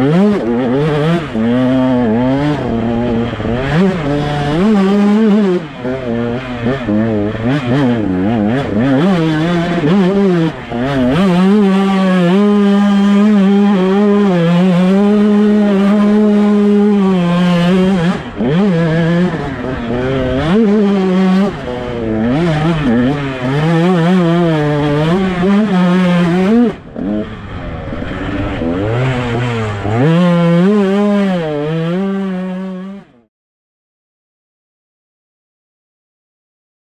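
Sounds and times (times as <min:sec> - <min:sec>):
two-stroke motocross engine revving: 0:00.0 - 0:33.3.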